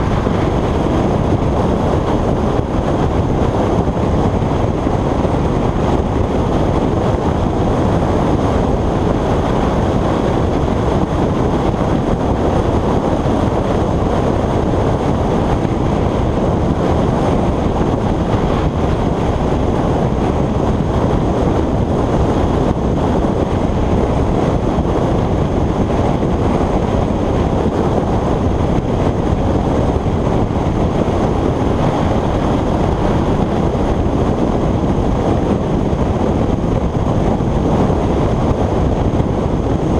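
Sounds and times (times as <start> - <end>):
loud wind rush on microphone: 0.0 - 39.9
motorcycle road noise: 0.0 - 39.9.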